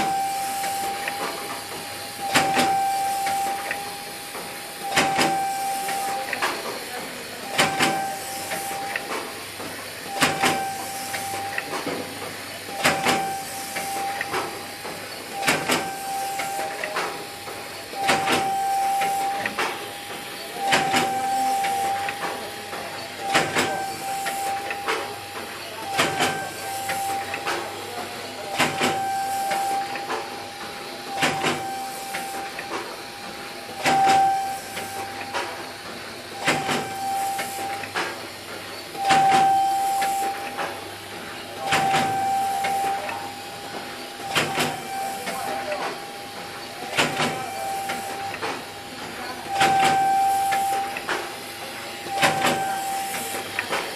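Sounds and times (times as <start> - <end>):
machine clacking: 0.0 - 53.9
machine hiss: 0.0 - 53.9
machine whine: 0.0 - 53.9.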